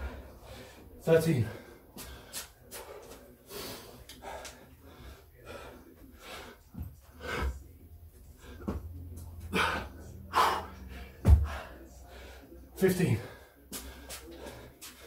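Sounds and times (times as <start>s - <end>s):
man breathing hard: 0.0s - 7.6s, 9.5s - 15.0s.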